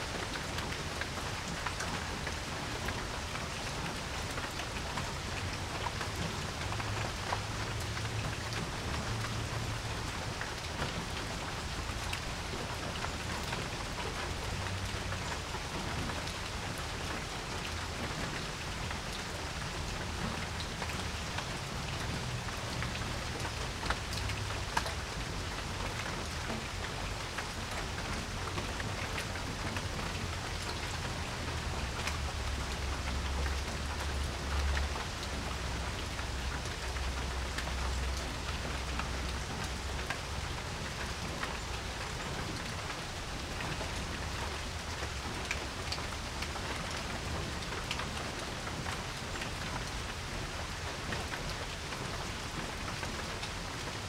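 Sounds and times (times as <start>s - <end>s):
rain falling on a porch: 0.0s - 54.0s
raindrops ticking: 0.1s - 54.0s.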